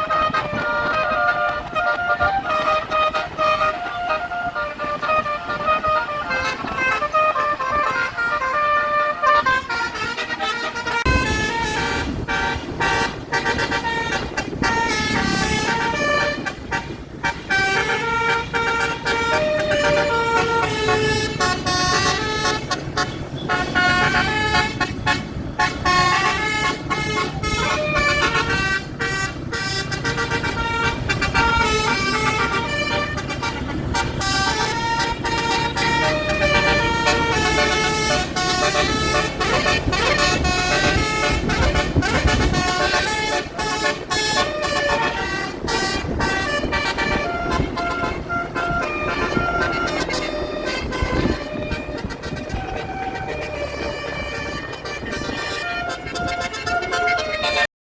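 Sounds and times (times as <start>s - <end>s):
bus engine rumble: 0.0s - 57.7s
bus horn playing a tune: 0.0s - 57.7s.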